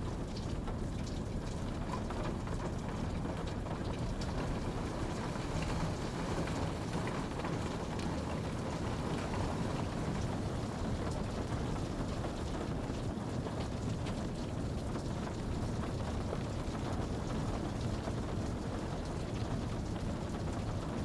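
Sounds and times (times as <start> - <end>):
steady rain hiss: 0.0 - 21.0
raindrop ticks: 0.1 - 20.9.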